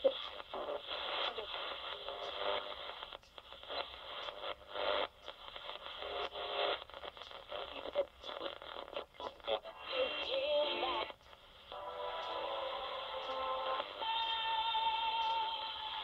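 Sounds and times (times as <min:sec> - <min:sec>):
radio static and hiss: 0:00.0 - 0:16.0
snatches of radio stations: 0:00.0 - 0:16.0.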